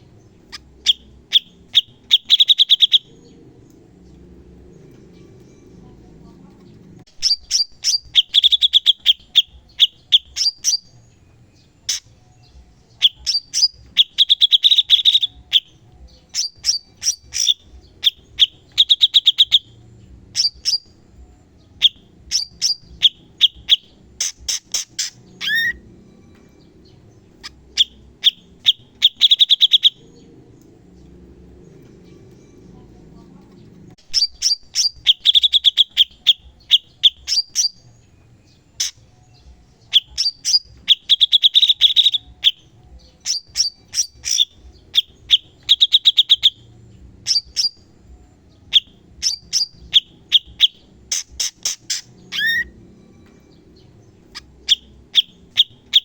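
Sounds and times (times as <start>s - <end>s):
bird singing sharp chirps and trills: 0.0s - 56.0s.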